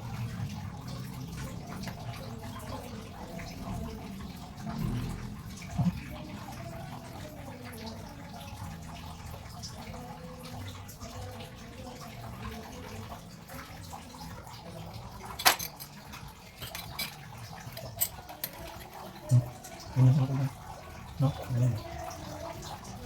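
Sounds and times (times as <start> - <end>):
water running: 0.0 - 23.0.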